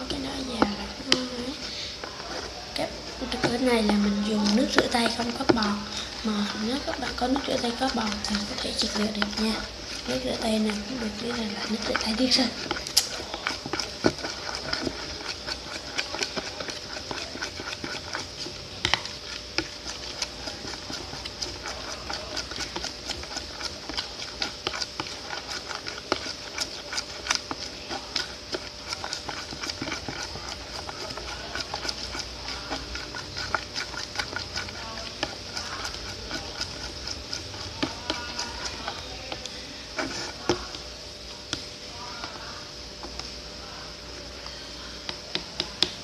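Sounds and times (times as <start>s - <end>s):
slime stirred in a container: 0.0s - 46.0s.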